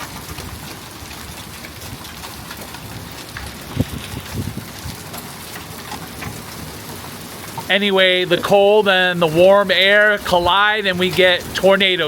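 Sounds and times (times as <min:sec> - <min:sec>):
hailstones ticking: 0:00.0 - 0:12.0
heavy rain: 0:00.0 - 0:12.0.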